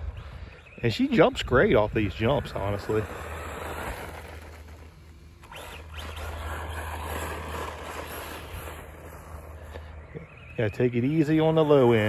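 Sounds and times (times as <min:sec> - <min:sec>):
tyres on loose dirt: 0:00.6 - 0:12.0
electric motor whine: 0:01.9 - 0:12.0.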